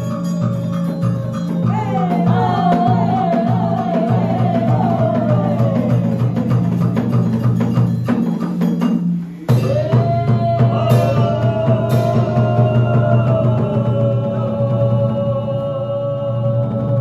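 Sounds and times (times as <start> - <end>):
drum strikes: 0.0 - 15.5.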